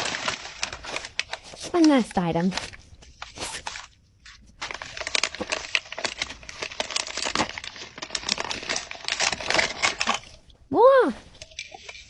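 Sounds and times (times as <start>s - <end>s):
paper bag crinkling and tearing: 0.0s - 10.4s.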